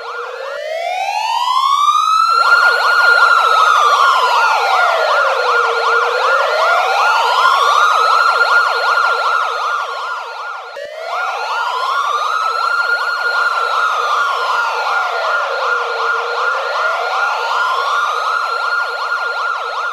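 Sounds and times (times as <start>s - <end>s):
police siren wailing and yelping: 0.0s - 19.9s.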